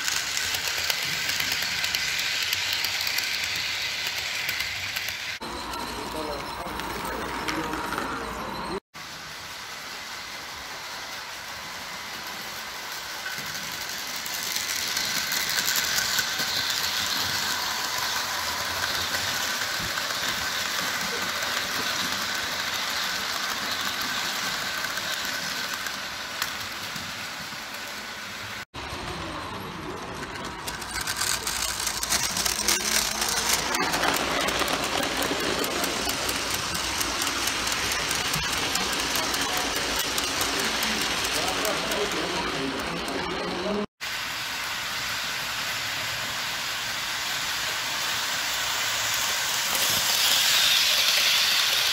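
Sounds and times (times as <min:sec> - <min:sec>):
rapid clicking of train wheels: 0:00.0 - 0:08.6, 0:09.4 - 0:43.9, 0:44.6 - 0:51.9
model train wheels rolling on rails: 0:00.0 - 0:51.9.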